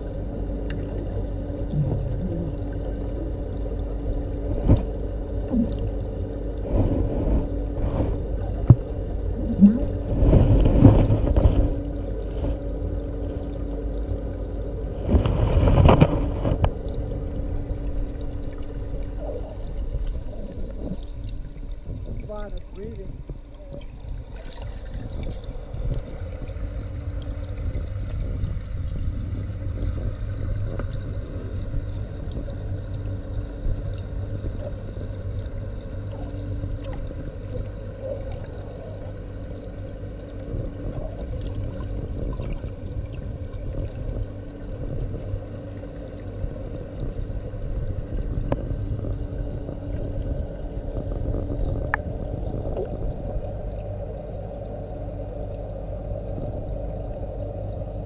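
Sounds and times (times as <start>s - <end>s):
muffled underwater rumble: 0.0s - 58.0s.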